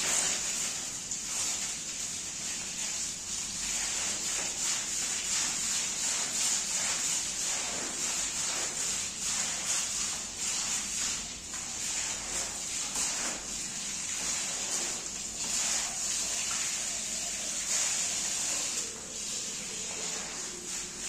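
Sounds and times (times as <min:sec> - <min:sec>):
wet rug swishing strokes: 0:00.0 - 0:21.0.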